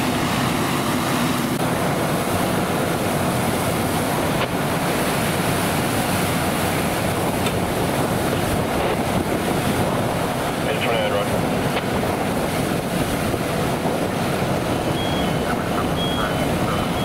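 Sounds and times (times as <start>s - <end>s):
fire hose spraying water: 0.0s - 17.0s.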